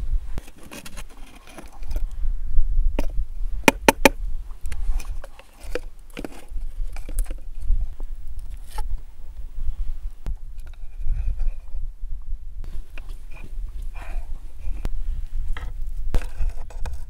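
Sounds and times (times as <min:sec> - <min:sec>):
steady low rumble: 0:01.9 - 0:16.4.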